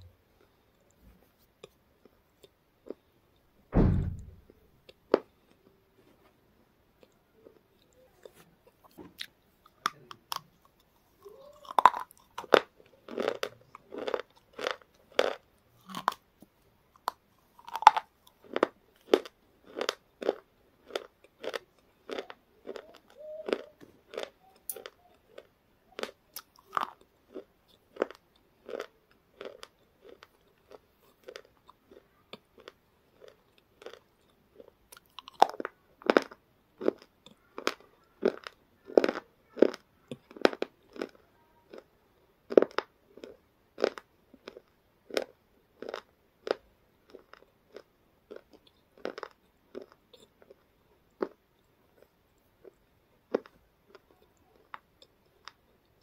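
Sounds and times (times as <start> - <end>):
person chewing crunchy food: 7.0 - 56.0.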